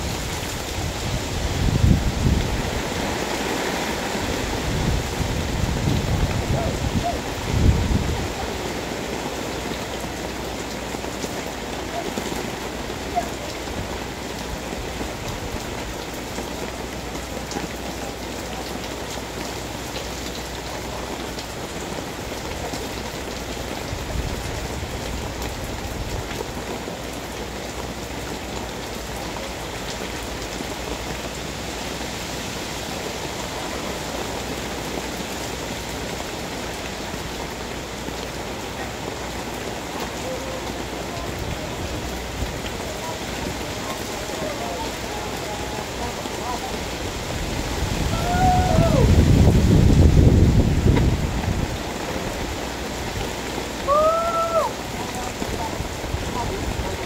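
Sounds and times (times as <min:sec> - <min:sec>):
rain on concrete and plants: 0:00.0 - 0:57.0.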